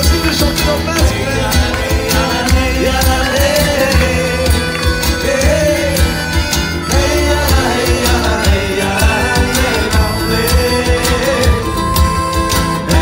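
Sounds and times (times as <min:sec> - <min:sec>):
accordion melody: 0:00.0 - 0:13.0
cajon beat: 0:00.0 - 0:13.0
strummed acoustic guitar: 0:00.0 - 0:13.0.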